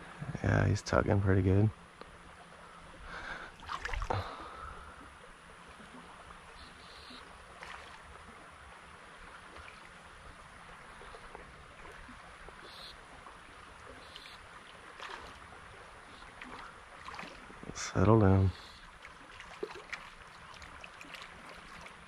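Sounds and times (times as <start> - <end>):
creek water rushing: 1.8 - 22.0.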